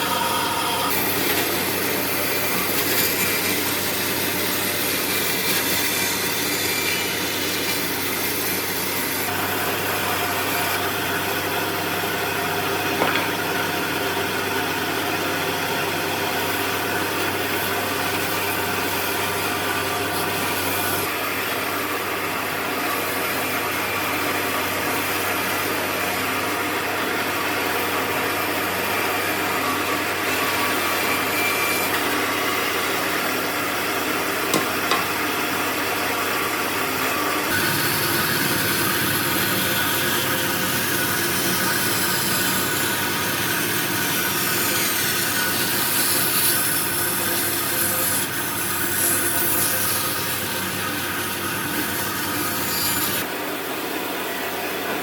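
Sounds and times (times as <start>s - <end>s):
power tools whirring on wood: 0.0s - 22.2s, 25.2s - 55.0s.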